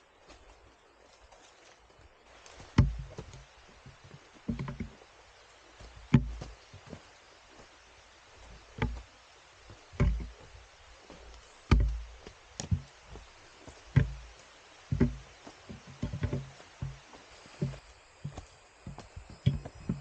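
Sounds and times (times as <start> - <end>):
footsteps on dirt trail: 0.0 - 20.0.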